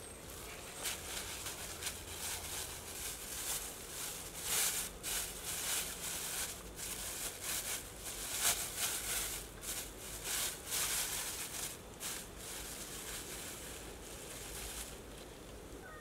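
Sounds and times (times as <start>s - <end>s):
plastic bags crinkling: 0.3s - 15.2s.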